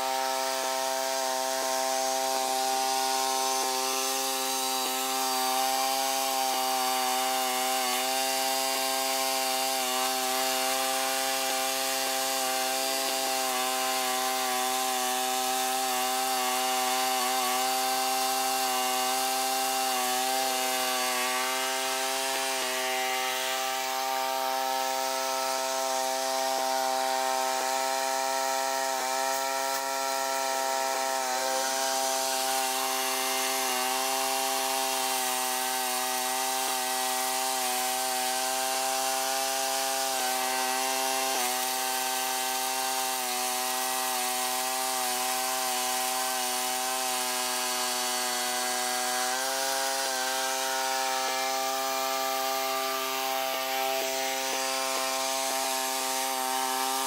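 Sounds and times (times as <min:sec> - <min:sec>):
garden tractor engine running: 0:00.0 - 0:57.0
rototiller churning soil: 0:00.0 - 0:57.0.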